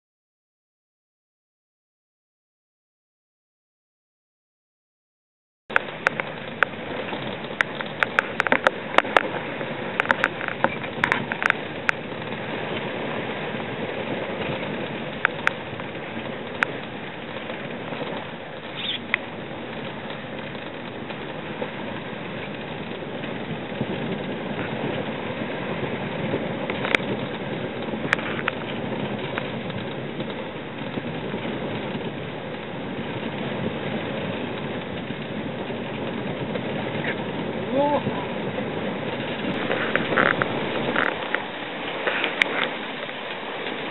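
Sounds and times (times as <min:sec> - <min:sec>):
wind and water rushing along hull: 0:05.7 - 0:43.9.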